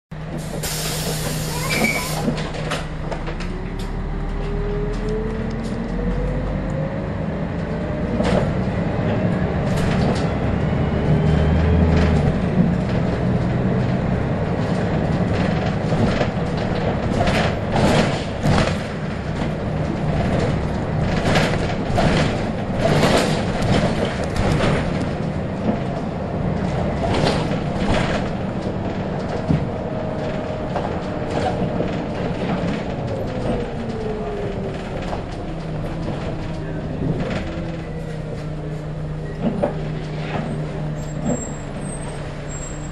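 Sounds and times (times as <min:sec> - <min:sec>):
bus body rattles and knocks: 0:00.1 - 0:42.9
bus diesel engine whining: 0:00.2 - 0:42.9.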